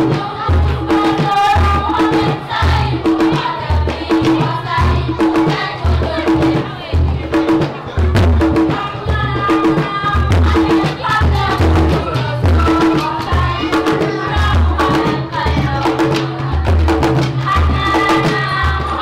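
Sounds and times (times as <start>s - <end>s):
girls chanting in unison: 0.0s - 19.0s.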